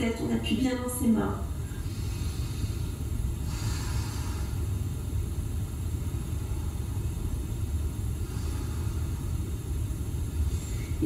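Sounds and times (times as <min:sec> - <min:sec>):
steady low rumble: 0:00.0 - 0:11.0
soft breath hissing: 0:01.6 - 0:11.0.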